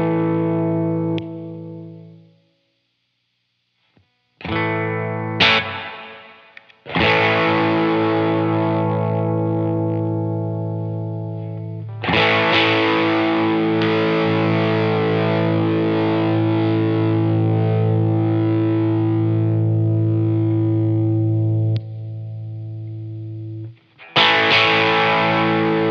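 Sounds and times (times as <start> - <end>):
electric guitar chords: 0.0 - 25.9.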